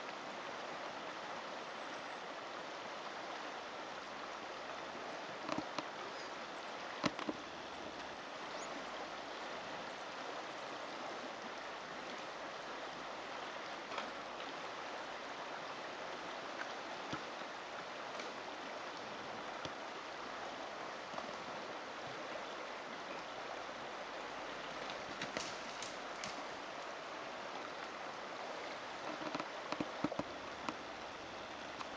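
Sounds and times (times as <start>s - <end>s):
flowing water: 0.0s - 31.9s.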